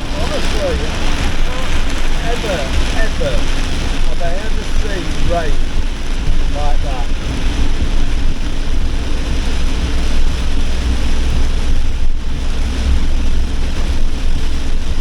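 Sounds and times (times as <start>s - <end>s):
heavy rain pounding on vehicle roof: 0.0s - 15.0s.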